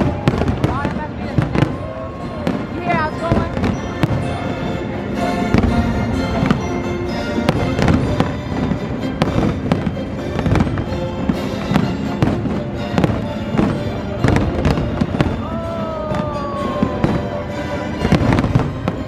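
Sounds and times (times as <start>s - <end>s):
fireworks bangs and crackles: 0.0s - 19.0s
loud music: 0.0s - 19.0s.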